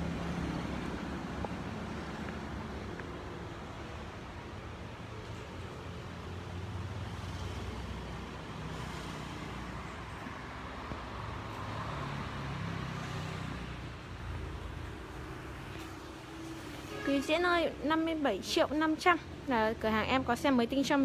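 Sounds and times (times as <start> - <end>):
street traffic rumbling: 0.0 - 21.0
vehicles passing: 0.0 - 21.0.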